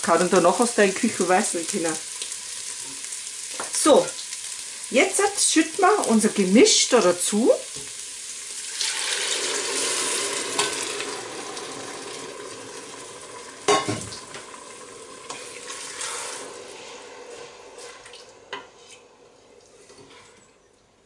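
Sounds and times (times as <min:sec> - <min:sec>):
liquid sizzling in hot pot: 0:00.0 - 0:20.6.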